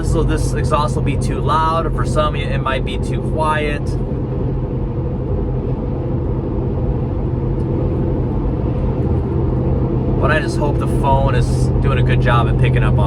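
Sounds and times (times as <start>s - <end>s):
low exhaust drone: 0.0s - 13.0s
road and tyre noise: 0.0s - 13.0s.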